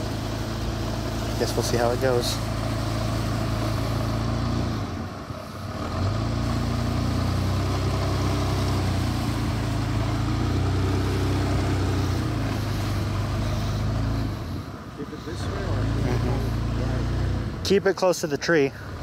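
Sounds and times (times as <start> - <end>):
truck engine running at low revs: 0.0 - 19.0.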